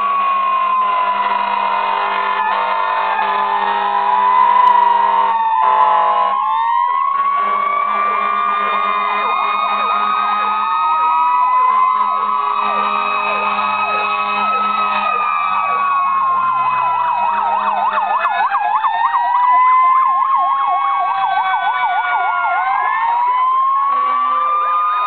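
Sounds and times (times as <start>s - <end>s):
fast yelping sirens: 0.0s - 25.0s
wailing sirens: 0.0s - 25.0s.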